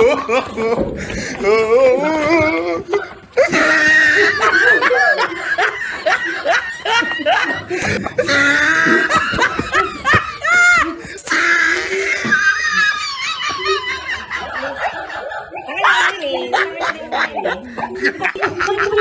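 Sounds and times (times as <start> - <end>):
people laughing loudly: 0.0 - 19.0.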